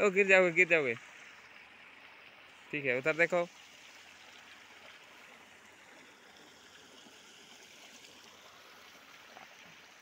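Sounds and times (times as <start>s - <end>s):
stream water flowing over rock: 0.0s - 10.0s.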